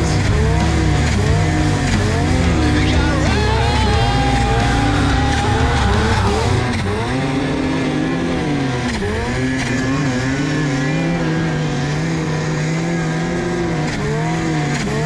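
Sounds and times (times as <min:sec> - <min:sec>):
snowmobile engine running hard: 0:00.0 - 0:15.0.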